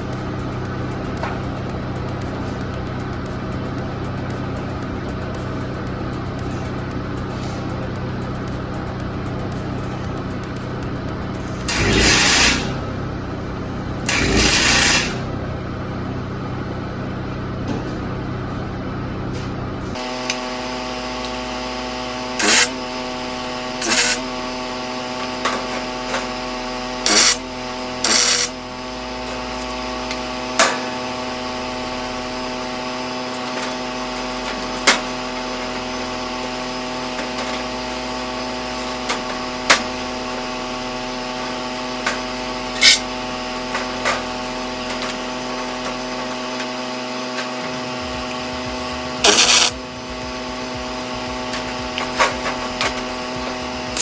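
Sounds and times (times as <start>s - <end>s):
handheld power tool motor: 0.0s - 13.1s, 13.7s - 15.5s, 20.0s - 54.0s.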